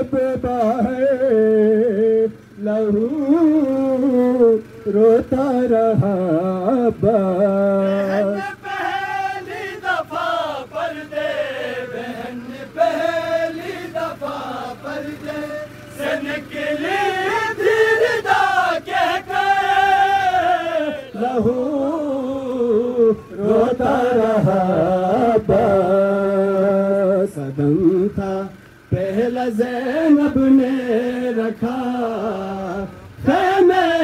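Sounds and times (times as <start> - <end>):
group chanting a lament: 5.5 - 27.4, 28.0 - 34.0.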